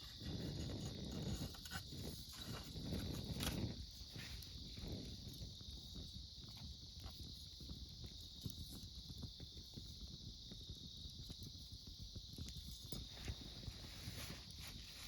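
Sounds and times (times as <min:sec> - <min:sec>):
campfire crackling: 0:00.0 - 0:15.0
insects chirping: 0:00.0 - 0:15.0.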